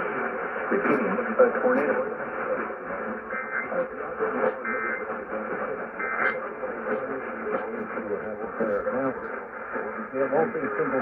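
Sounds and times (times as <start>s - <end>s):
faint jumble of voices: 0.0s - 11.0s
radio static: 0.0s - 11.0s.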